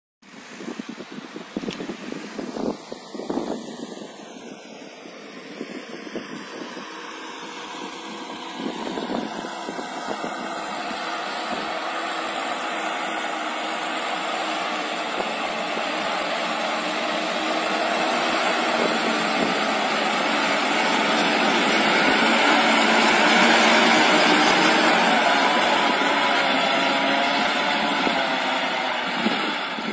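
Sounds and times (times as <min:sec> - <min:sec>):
tractor diesel engine under load: 0:00.2 - 0:29.9.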